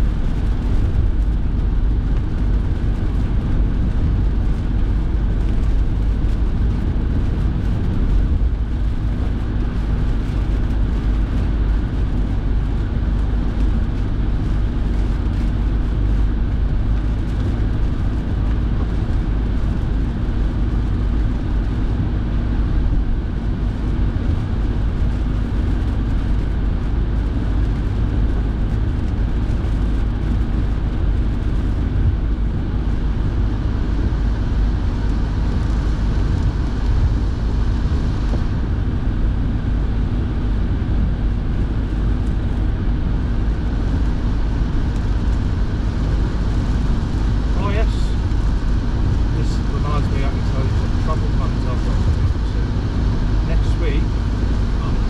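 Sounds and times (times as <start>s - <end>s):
car engine and tyre noise: 0.0s - 55.0s
heater fan blowing: 0.0s - 55.0s.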